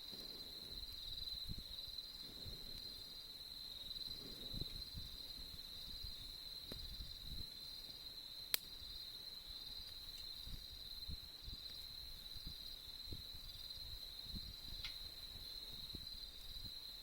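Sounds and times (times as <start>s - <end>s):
campfire crackling: 0.0s - 17.0s
crickets trilling: 0.0s - 17.0s
fire popping: 0.0s - 17.0s.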